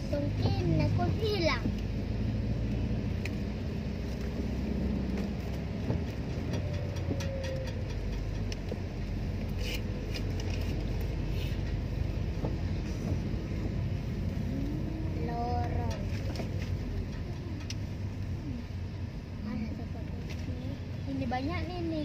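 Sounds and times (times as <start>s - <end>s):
car engine running: 0.0s - 21.7s
tyres on wet road: 0.0s - 22.0s.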